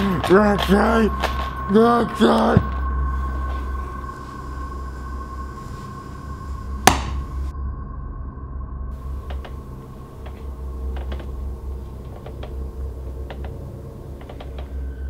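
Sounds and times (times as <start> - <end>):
faint steady tone: 0.0 - 15.0
low droning hum: 0.0 - 15.0.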